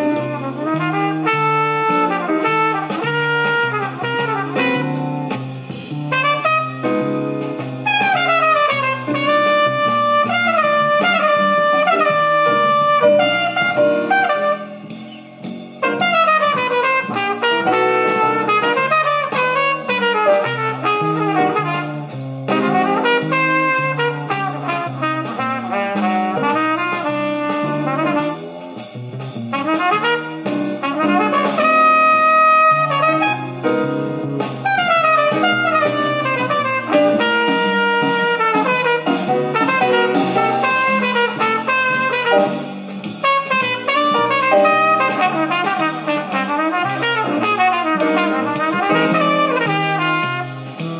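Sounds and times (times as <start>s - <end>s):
jazz with trumpet over speakers: 0.0s - 50.9s.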